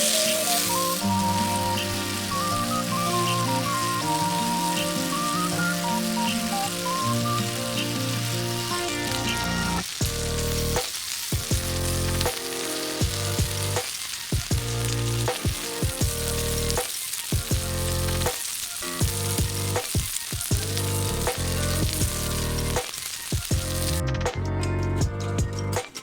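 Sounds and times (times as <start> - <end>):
background music with beat: 0.0 - 26.0
food frying and sizzling: 0.0 - 26.0.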